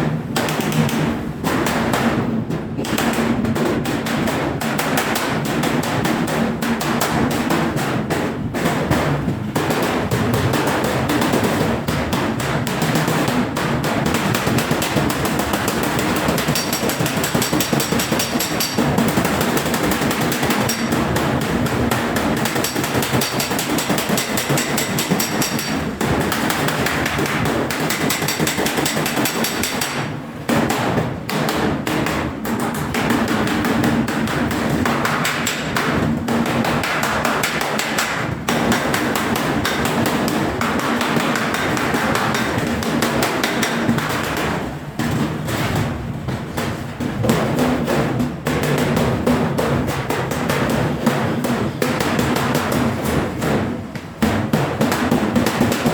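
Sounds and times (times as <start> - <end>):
hammer striking sheet steel: 0.0 - 55.9.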